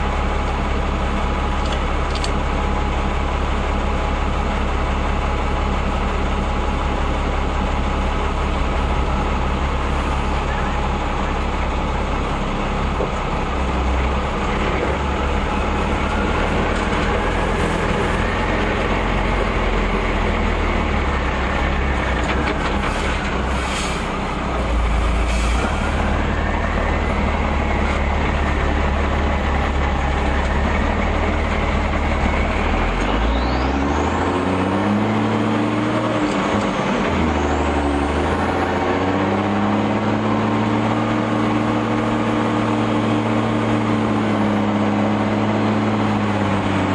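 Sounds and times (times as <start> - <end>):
truck engine whining: 0.0 - 46.9.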